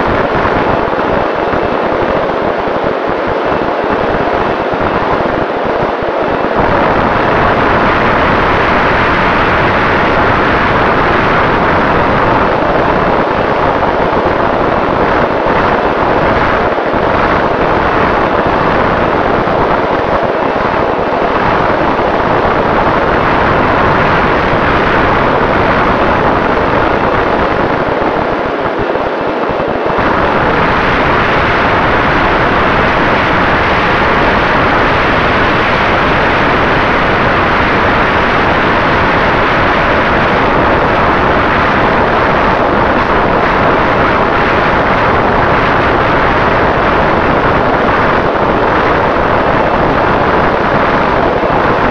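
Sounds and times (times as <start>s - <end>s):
faint steady whine: 0.0s - 51.9s.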